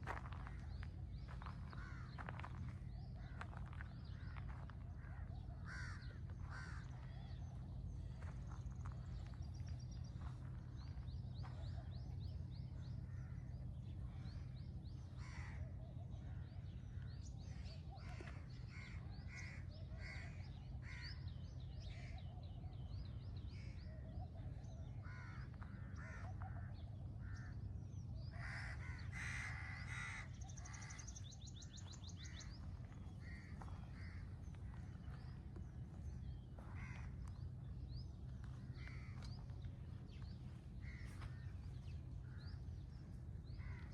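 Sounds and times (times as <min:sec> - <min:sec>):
birds calling: 0:00.0 - 0:43.9
steady low rumble: 0:00.0 - 0:43.9.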